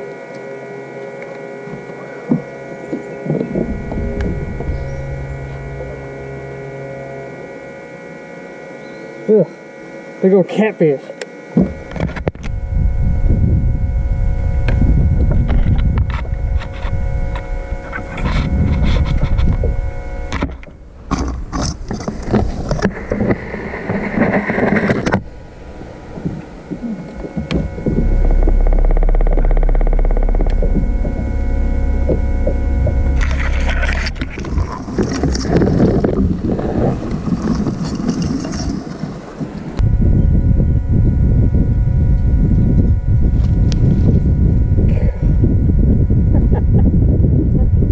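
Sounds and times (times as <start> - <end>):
electric hum: 0.0 - 47.9
electric motor whine: 0.0 - 47.9
wind on microphone: 2.3 - 7.6, 11.6 - 47.9.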